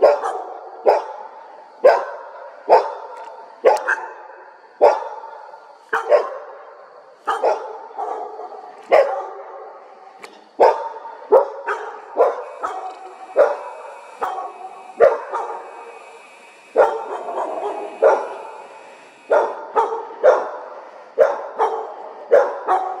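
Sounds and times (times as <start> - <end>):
dog barking: 0.0 - 16.0, 16.7 - 23.0.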